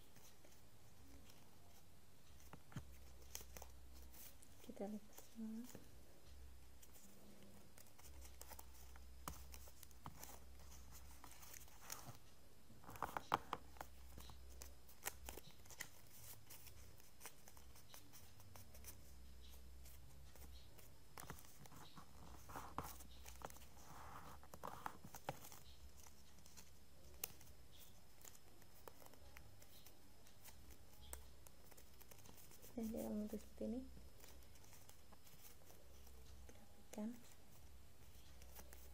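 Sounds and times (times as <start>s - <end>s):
paper crinkling and folding: 0.0s - 5.9s, 6.8s - 38.9s
faint low hum: 0.0s - 38.9s.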